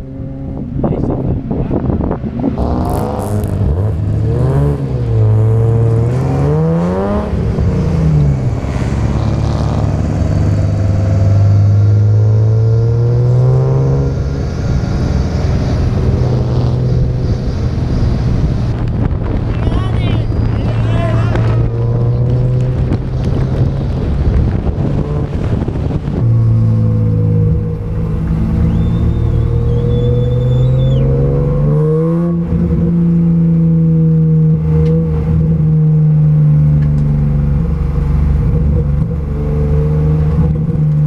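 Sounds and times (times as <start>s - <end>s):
car engine running at low revs: 0.0s - 41.0s.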